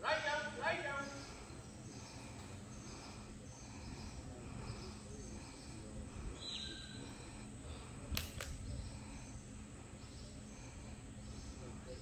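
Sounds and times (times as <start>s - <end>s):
faint background noise: 0.0s - 12.0s
steady low hum: 0.0s - 12.0s.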